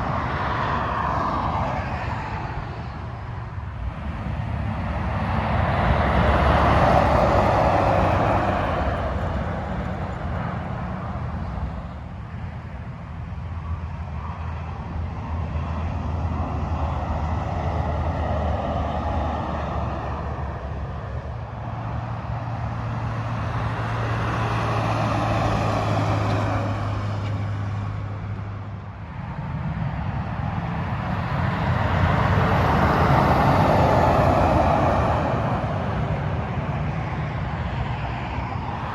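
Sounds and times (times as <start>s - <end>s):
low steady engine drone: 0.0s - 38.9s
vehicles passing at highway speed: 0.0s - 38.9s.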